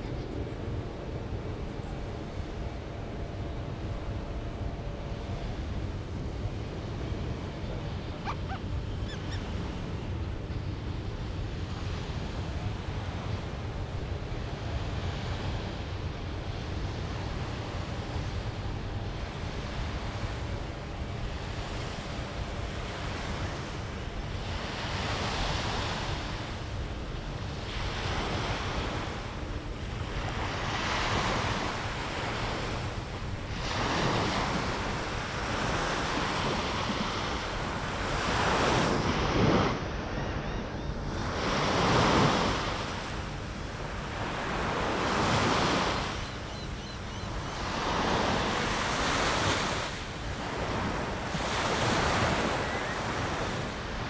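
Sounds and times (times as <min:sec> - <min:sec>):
ocean waves breaking on sand: 0:02.2 - 0:54.0.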